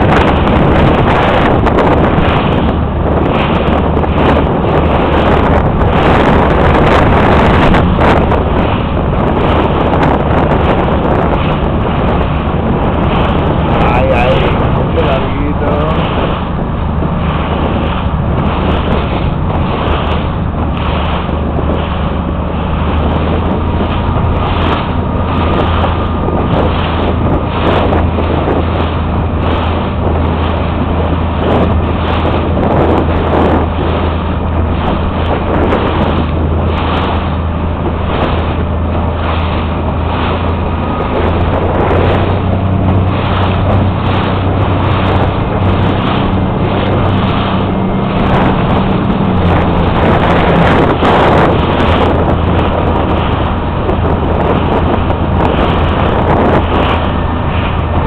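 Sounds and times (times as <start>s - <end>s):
motorboat engine running: 0.0s - 58.0s
water splashing against hull: 0.0s - 58.0s
wind buffeting microphone: 0.0s - 58.0s.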